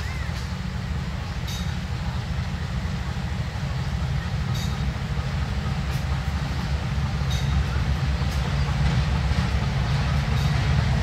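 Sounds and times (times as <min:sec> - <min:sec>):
locomotive engine rumbling: 0:00.0 - 0:11.0.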